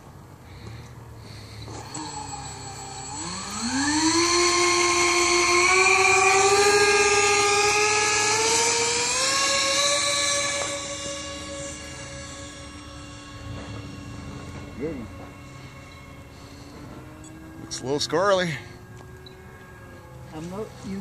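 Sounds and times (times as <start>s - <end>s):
electric ducted fans whining: 0.0s - 21.0s.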